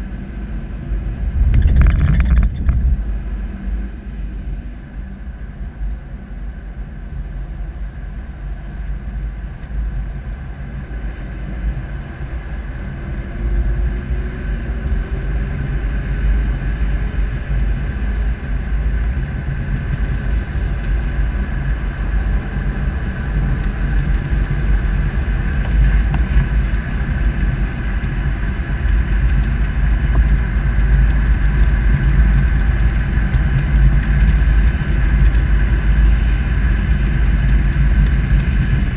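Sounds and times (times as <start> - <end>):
suv driving rumble: 0.0 - 38.9.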